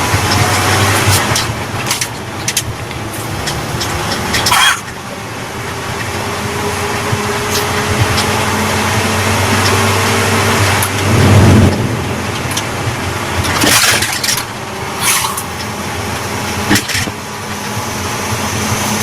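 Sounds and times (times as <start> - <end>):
pickup engine revving: 0.0 - 19.0.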